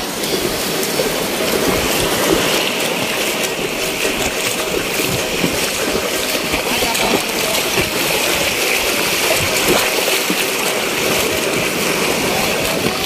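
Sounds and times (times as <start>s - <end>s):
legs splashing through water: 0.0s - 13.0s
shallow surf rushing: 0.0s - 13.0s.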